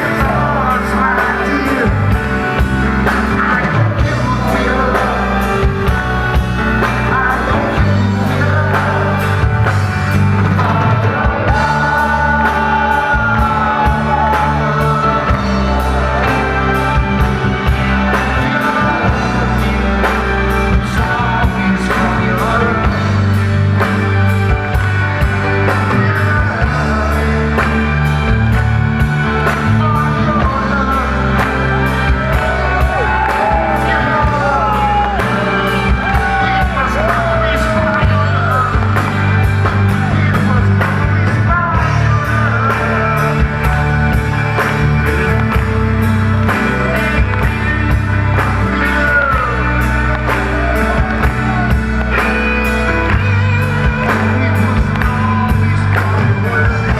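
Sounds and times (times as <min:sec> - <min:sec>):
bending lead melody: 0:00.0 - 0:56.9
drums keeping beat: 0:00.0 - 0:56.9
live rock band playing: 0:00.0 - 0:56.9.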